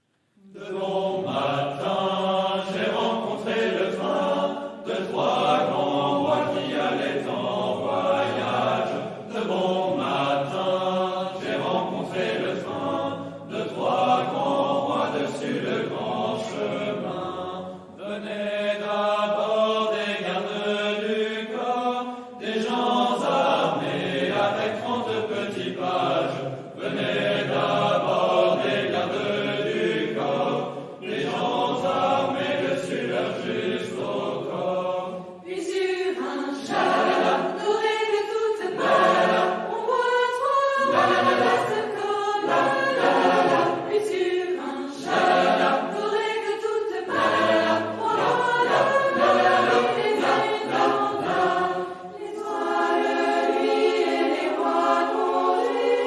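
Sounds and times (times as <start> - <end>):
choir chanting: 0.0 - 56.0.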